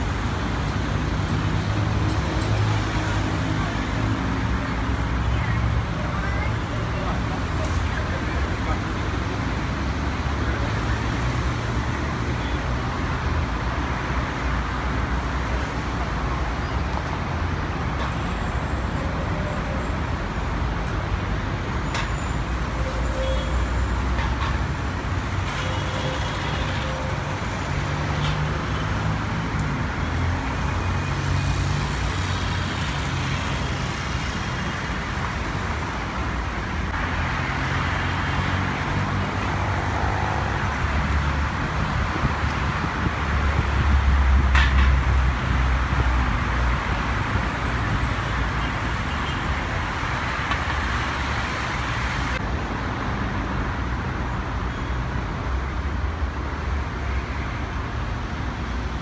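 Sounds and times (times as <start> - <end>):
road traffic rumble: 0.0 - 59.0
traffic hiss: 0.0 - 59.0.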